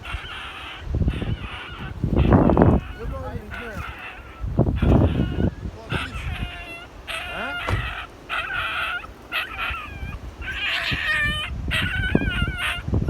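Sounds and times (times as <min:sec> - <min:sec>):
puppy yelping and whimpering: 0:00.0 - 0:13.0.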